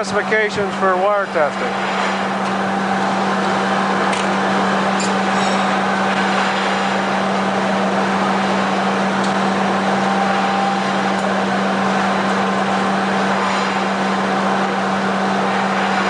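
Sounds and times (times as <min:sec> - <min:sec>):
machinery low hum: 0:00.0 - 0:16.0
steady higher machine tone: 0:00.0 - 0:16.0.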